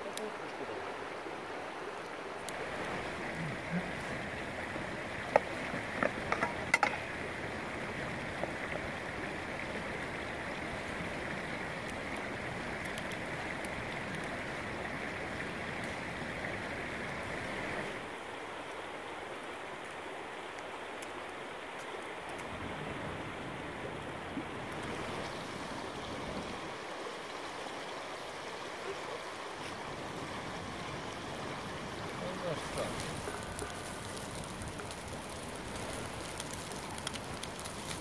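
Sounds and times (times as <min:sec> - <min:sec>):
river flowing over rocks: 0:00.0 - 0:38.0.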